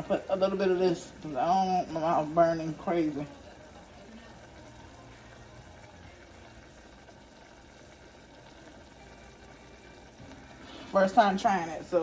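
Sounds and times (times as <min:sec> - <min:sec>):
noodles bubbling in a pot: 0:00.0 - 0:12.0.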